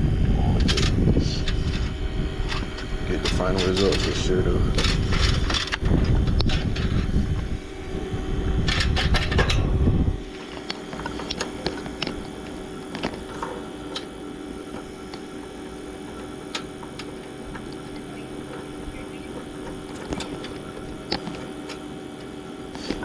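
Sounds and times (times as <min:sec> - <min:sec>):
air conditioner humming: 0:00.0 - 0:23.0
heavy low rumble: 0:00.0 - 0:23.0.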